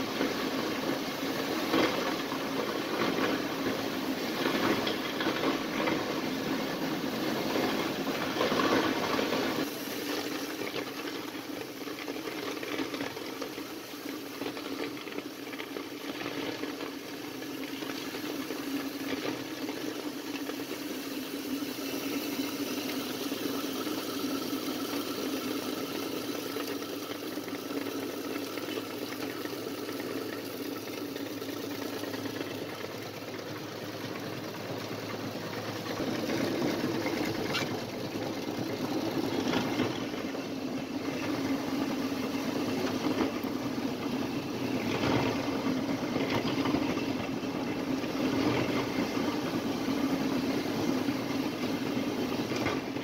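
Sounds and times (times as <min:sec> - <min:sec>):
salt grinding machine drone: 0:00.0 - 0:53.0.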